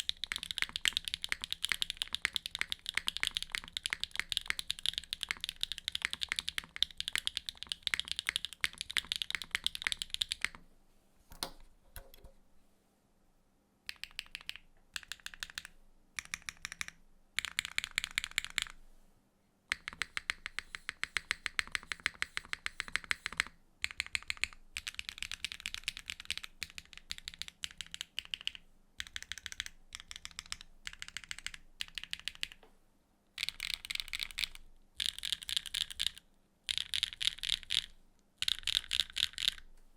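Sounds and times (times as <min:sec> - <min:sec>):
mechanical keyboard typing: 0:00.0 - 0:10.6, 0:13.9 - 0:18.8, 0:19.7 - 0:32.6, 0:33.4 - 0:39.7.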